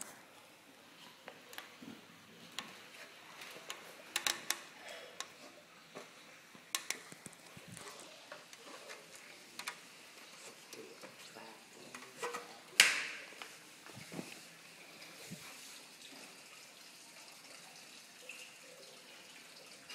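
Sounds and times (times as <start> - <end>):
faint steady hiss: 0.0 - 19.9.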